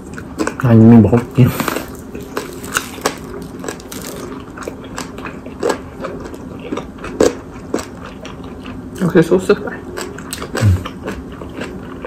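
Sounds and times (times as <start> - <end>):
chewing fried chicken crunches: 0.0 - 12.0.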